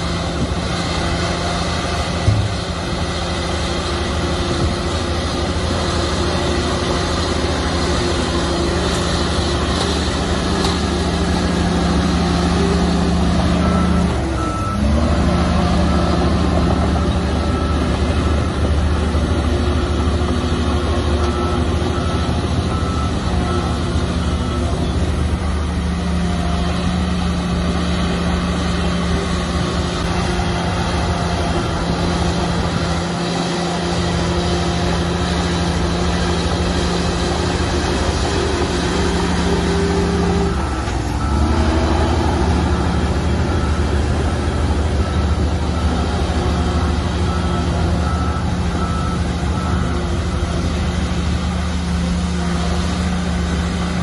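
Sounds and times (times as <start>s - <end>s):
diesel machine engine under load: 0.0s - 54.0s
reversing alarm beeping: 0.4s - 53.6s.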